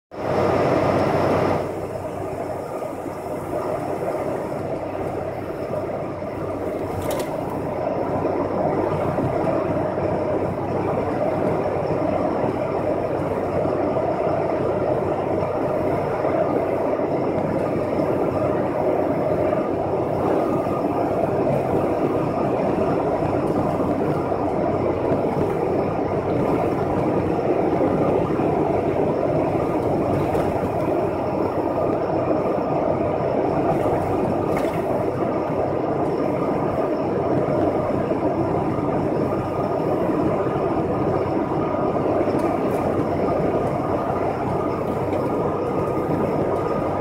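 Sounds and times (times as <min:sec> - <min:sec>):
road and engine noise in cab: 0:00.1 - 0:47.0
faint steady whine: 0:00.2 - 0:47.0.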